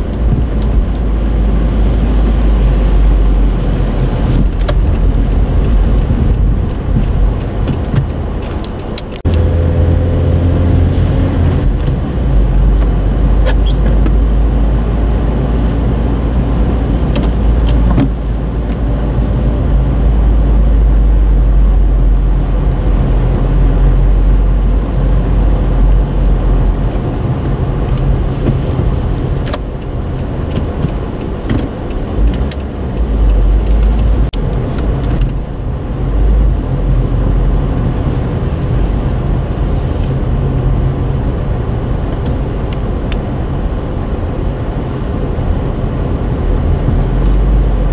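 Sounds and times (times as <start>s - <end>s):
car road and engine rumble: 0.0s - 47.9s.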